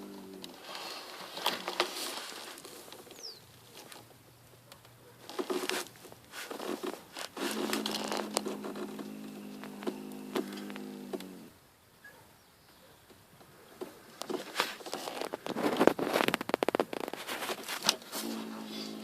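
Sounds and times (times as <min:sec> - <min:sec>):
rustling handling noises: 0:00.2 - 0:11.3, 0:12.8 - 0:19.0.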